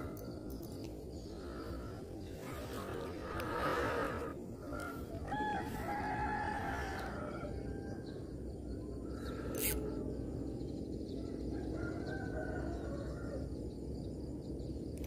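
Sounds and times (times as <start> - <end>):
distant bird calls: 0.0 - 15.0
steady low rumble: 0.0 - 15.0.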